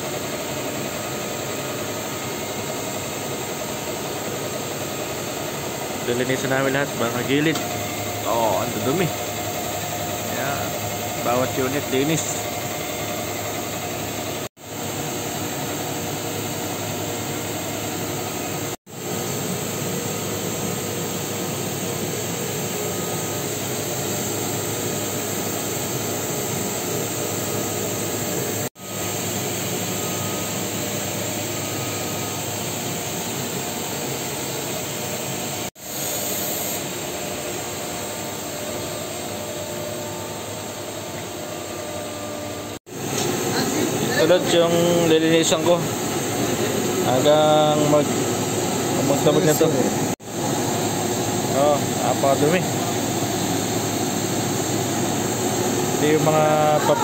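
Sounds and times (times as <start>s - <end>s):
machinery and ventilation roar: 0.0s - 57.0s.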